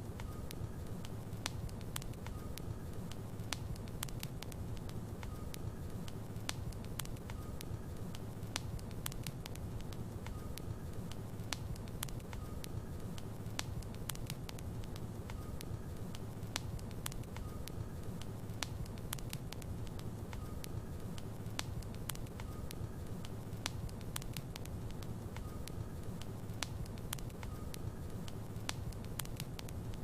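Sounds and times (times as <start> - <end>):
wood crackling and popping: 0.1 - 30.0.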